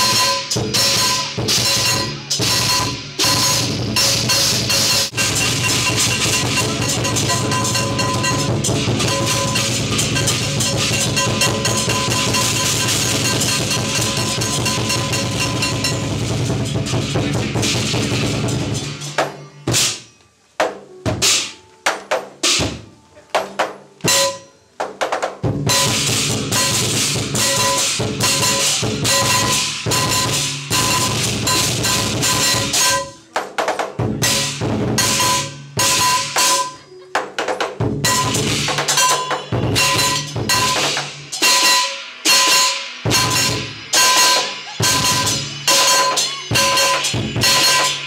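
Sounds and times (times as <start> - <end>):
loud percussive drumming: 0.0 - 48.0.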